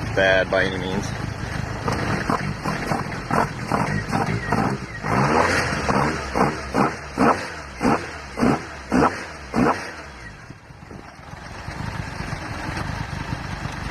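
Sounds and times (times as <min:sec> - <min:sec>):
car engine revving and idling: 0:00.0 - 0:13.9.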